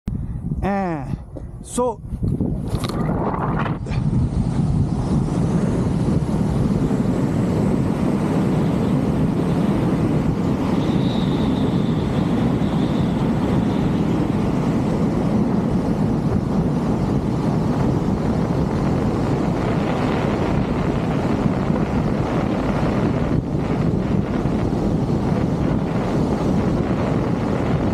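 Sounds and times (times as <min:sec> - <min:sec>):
wind rushing across microphone: 0:00.0 - 0:27.9.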